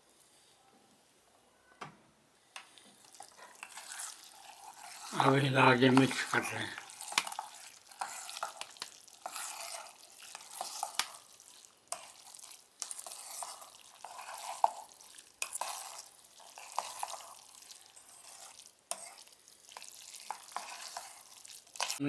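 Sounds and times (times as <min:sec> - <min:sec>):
spoon stirring noodles: 0:02.6 - 0:22.0.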